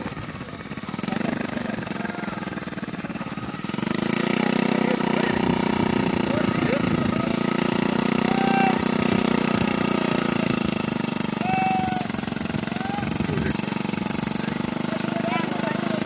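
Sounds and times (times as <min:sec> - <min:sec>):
helicopter engine running: 0:00.0 - 0:16.0.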